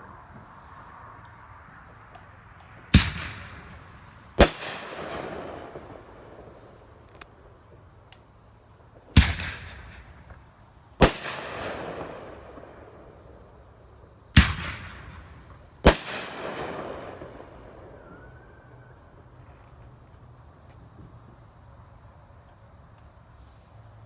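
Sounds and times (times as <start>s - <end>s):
fireworks bursting: 0.0s - 23.7s.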